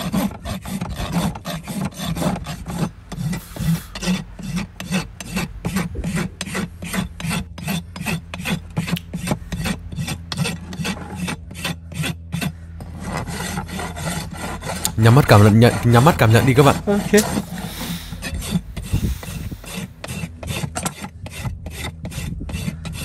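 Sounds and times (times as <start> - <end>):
rasp filing a hoof: 0.0 - 23.0.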